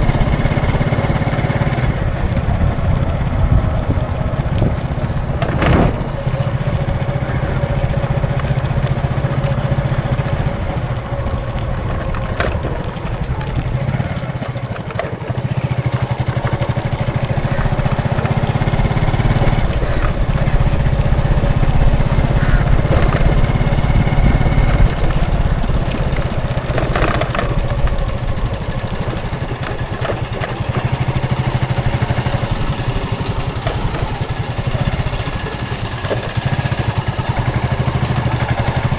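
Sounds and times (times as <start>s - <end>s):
road traffic rumble: 0.0s - 38.9s.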